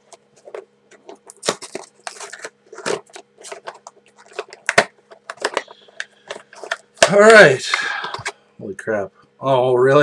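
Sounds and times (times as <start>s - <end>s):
plastic packaging clicks and rustles: 0.0s - 8.4s.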